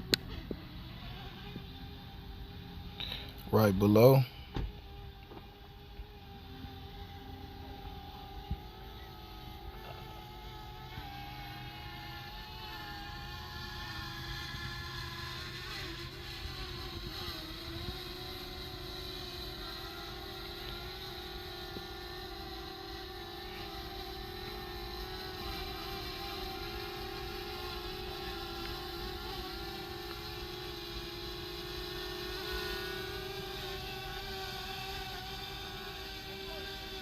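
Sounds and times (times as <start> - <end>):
drone propellers buzzing: 0.0 - 37.0.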